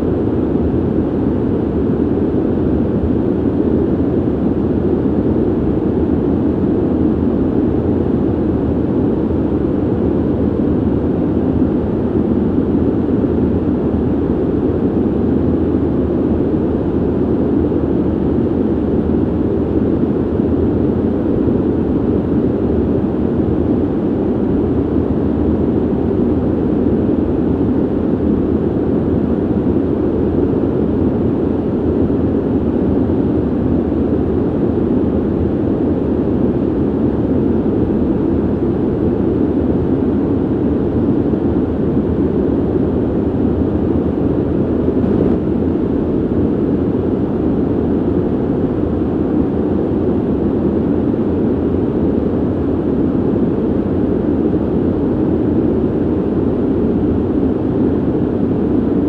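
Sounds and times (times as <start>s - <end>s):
ventilation air rushing: 0.0s - 59.0s.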